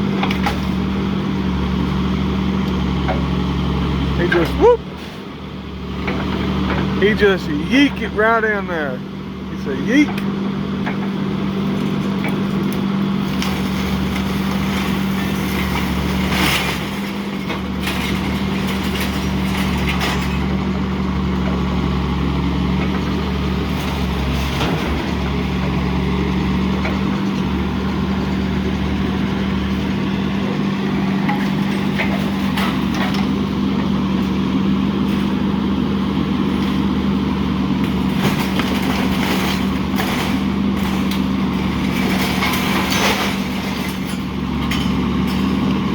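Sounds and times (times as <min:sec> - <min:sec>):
heavy vehicle engine idling: 0:00.0 - 0:45.9.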